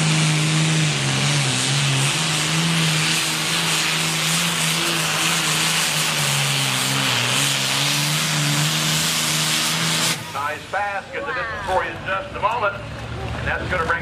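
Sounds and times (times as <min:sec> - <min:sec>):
diesel tractor engine under load: 0:00.0 - 0:14.0.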